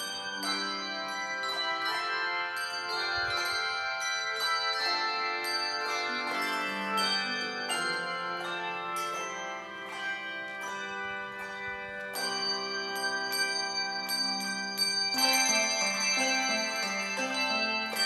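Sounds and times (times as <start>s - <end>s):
slow bell-like instrumental music: 0.0s - 18.0s.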